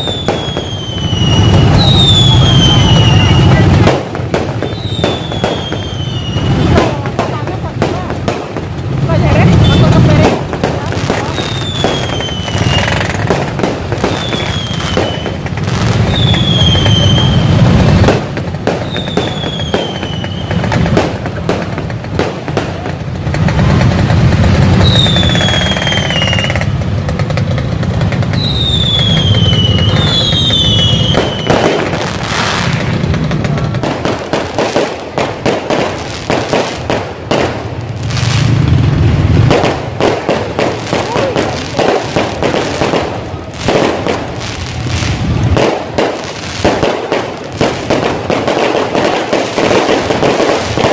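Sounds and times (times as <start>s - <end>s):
whistling rockets: 0.0s - 7.4s, 9.3s - 50.9s
firework bangs and crackling: 0.0s - 50.9s.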